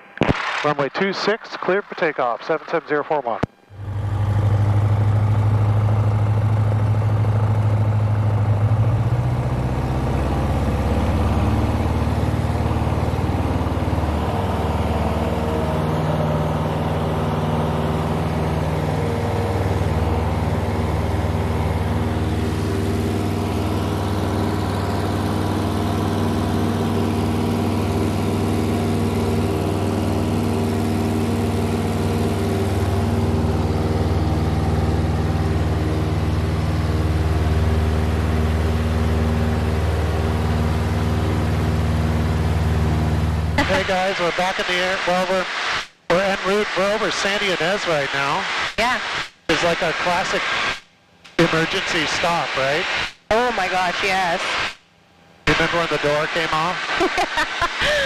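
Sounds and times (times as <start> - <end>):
light aircraft engine and propeller: 0.7 - 48.6, 55.3 - 58.0.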